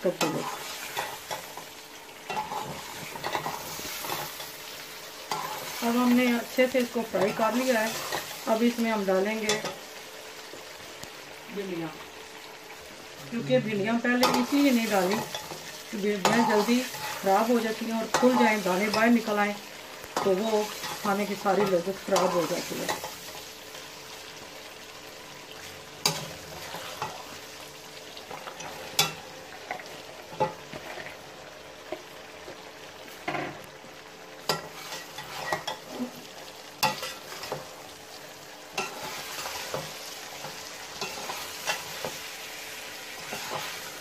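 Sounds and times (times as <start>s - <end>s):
food sizzling in oil: 0.0s - 44.0s.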